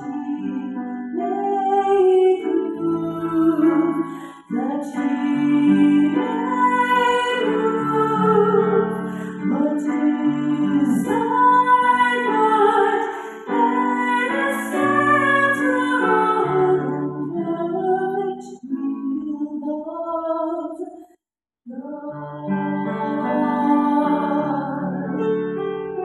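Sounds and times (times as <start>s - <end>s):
woman singing into a microphone: 0.0s - 20.9s, 21.7s - 25.5s.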